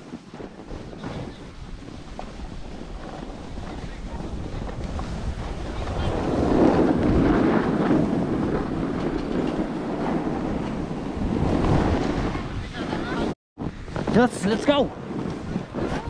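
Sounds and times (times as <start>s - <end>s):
snowboard scraping over snow: 0.0s - 16.0s
wind buffeting microphone: 0.0s - 16.0s.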